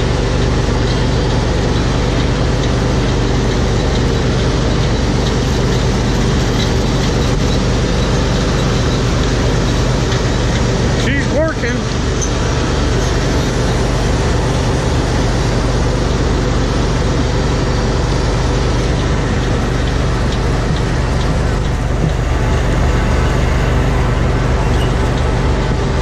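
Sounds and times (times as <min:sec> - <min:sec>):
engine running with low hum: 0:00.0 - 0:26.0.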